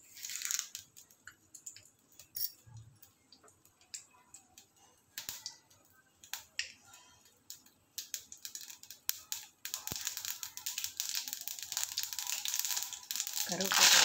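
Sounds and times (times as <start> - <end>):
seeds popping in hot oil: 0.0 - 14.0.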